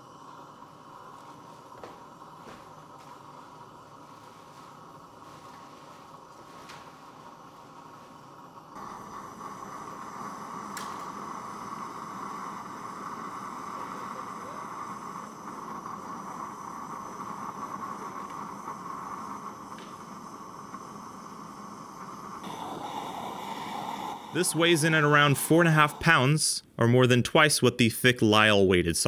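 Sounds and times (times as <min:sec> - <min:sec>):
gas torch flame hissing: 0:00.0 - 0:26.6.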